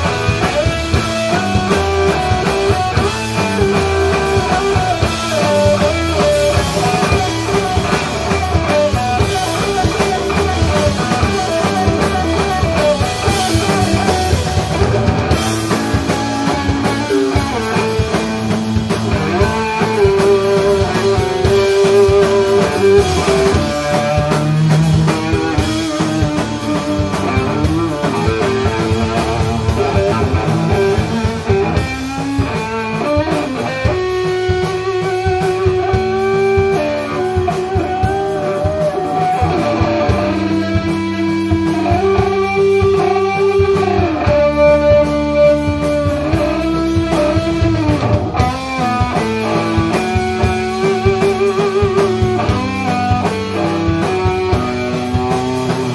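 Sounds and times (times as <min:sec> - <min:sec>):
bass line: 0:00.0 - 0:55.9
distorted electric guitar lead: 0:00.0 - 0:55.9
steady drumming: 0:00.0 - 0:55.9.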